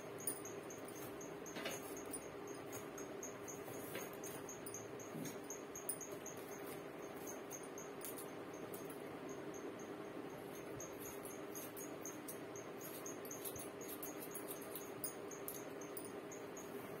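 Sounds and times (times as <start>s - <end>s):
steady faint hum: 0.0s - 17.0s.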